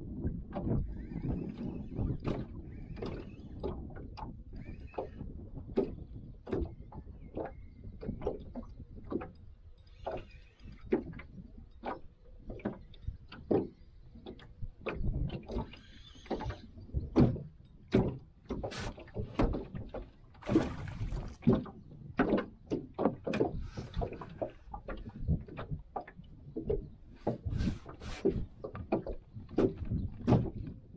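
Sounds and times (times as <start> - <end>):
water slapping boat hull: 0.0 - 30.9.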